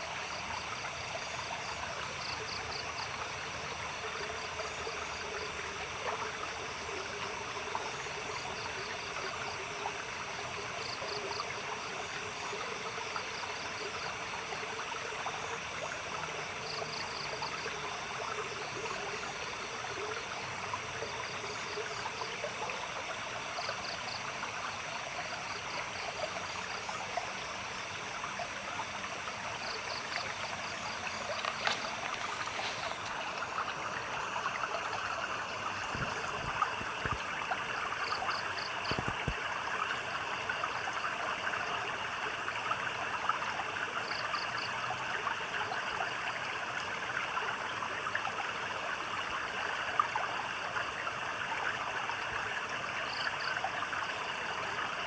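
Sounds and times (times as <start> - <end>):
high insect drone: 0.0 - 48.0
stream trickling: 0.0 - 55.0.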